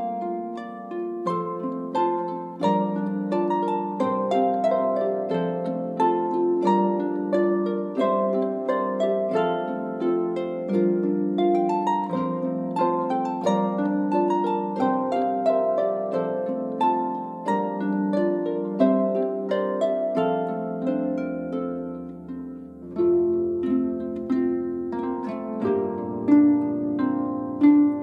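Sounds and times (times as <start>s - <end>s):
harp playing a melody: 0.0s - 28.0s.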